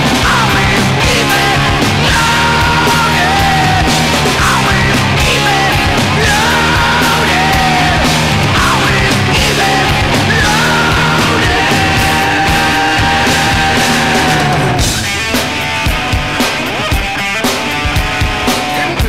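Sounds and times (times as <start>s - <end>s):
loud rock music: 0.0s - 19.0s
wavering lead line: 0.3s - 18.6s.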